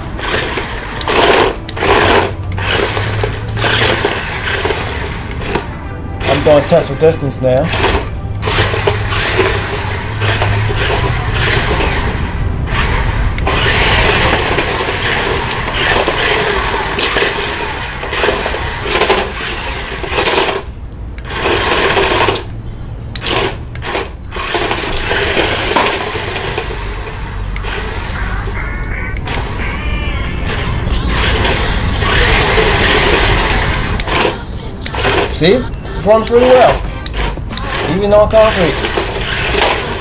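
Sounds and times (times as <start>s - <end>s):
wheels rattling over concrete: 0.0s - 22.6s, 23.2s - 28.6s, 35.0s - 40.0s
electric motors whirring: 0.0s - 28.6s, 29.2s - 40.0s.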